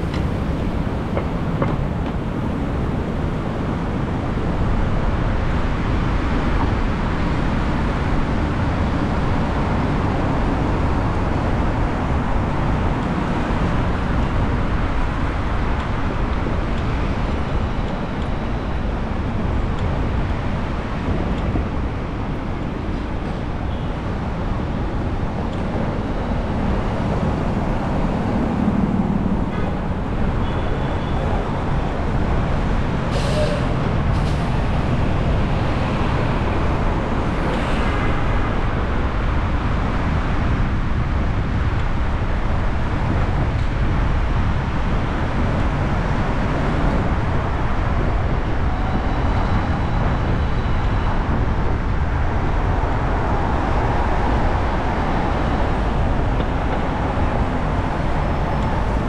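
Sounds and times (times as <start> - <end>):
traffic rumble of engines and tyres: 0.0 - 59.0.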